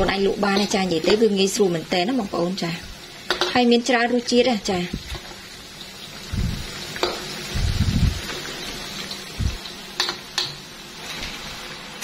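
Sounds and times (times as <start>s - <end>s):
deep-frying sizzle in oil: 0.0s - 12.0s.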